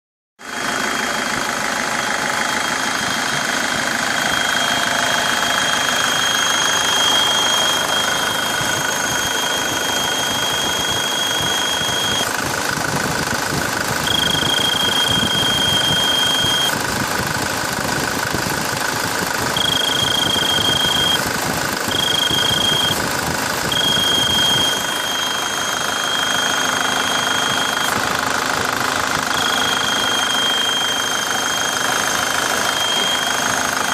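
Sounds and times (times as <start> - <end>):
engine running: 0.4 - 33.9
turbocharger whistle: 0.5 - 17.3, 18.1 - 28.2, 29.2 - 33.9.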